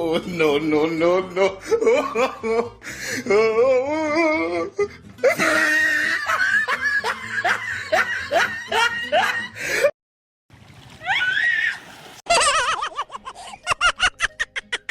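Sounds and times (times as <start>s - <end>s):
person laughing: 0.1s - 9.9s, 12.3s - 14.9s.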